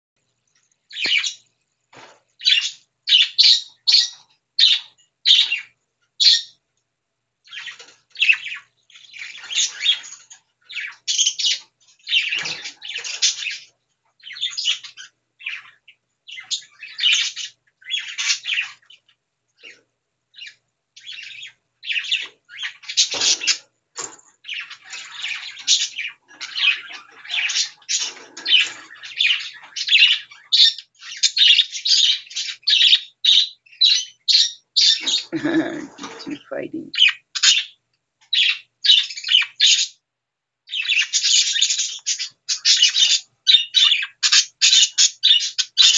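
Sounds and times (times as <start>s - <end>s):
birds squawking and chirping: 0.9s - 6.6s, 7.4s - 40.0s, 40.7s - 45.9s.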